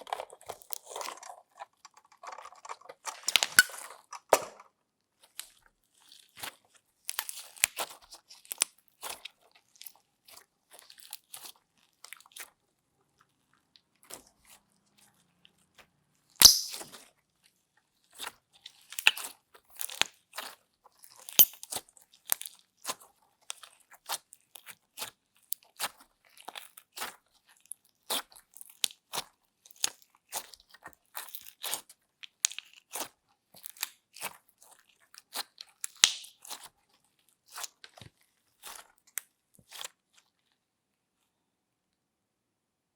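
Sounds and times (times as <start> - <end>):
slime squishing with crunchy crackles: 0.0 - 41.2.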